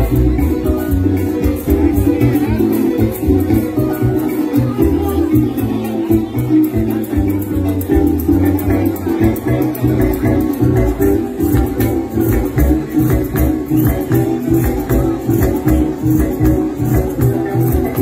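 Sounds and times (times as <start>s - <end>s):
bass line: 0.0s - 18.0s
maracas shaking: 0.0s - 18.0s
plucked harp: 0.0s - 18.0s
strummed strings: 0.0s - 18.0s.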